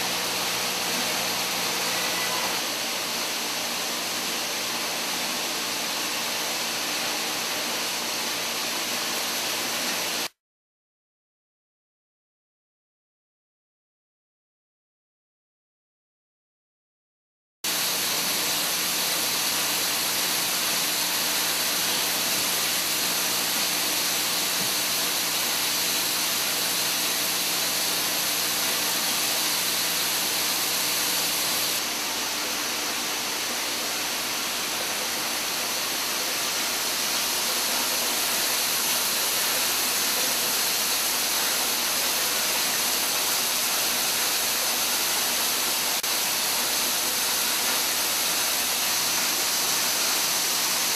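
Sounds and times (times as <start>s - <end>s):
faint machine hum: 0.0s - 10.0s, 17.7s - 50.9s
machine hiss: 0.0s - 10.3s, 17.7s - 50.9s.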